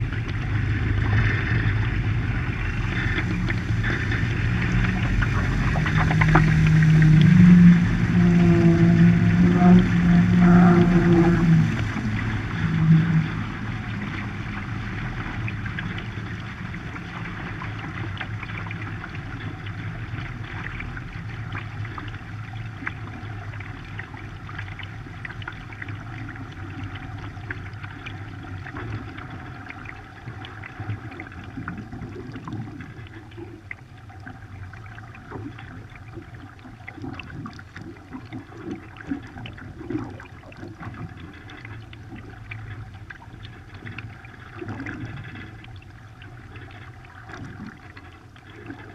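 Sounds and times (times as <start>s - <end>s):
steady low rumble: 0.0s - 48.9s
water rushing along a hull: 0.0s - 48.9s.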